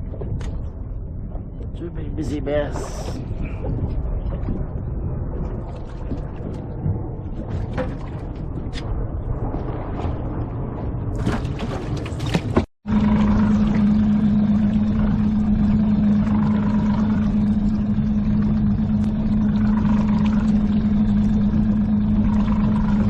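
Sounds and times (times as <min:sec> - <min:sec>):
wind and water rushing: 0:00.0 - 0:22.7
boat engine humming: 0:00.0 - 0:23.0.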